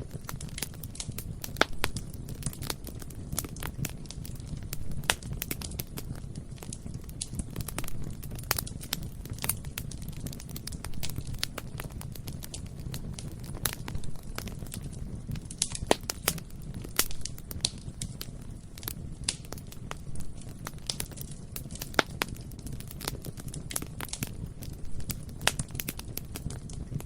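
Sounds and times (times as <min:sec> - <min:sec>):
bonfire crackling and popping: 0:00.0 - 0:27.0
low rumble of fire: 0:00.0 - 0:27.0.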